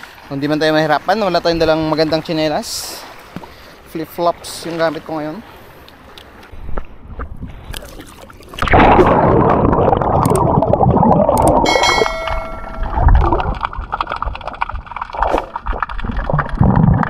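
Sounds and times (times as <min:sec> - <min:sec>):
water rushing and gurgling: 0:00.0 - 0:17.0.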